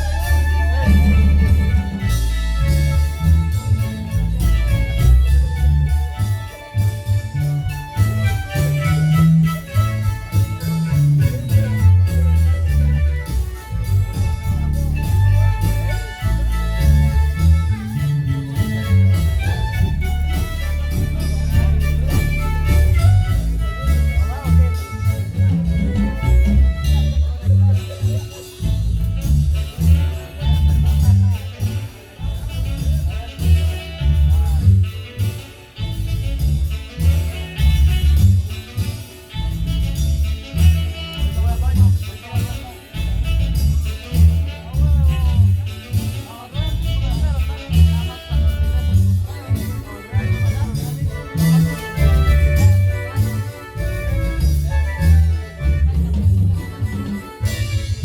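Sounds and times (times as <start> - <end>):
marimba band playing: 0.0 - 58.0.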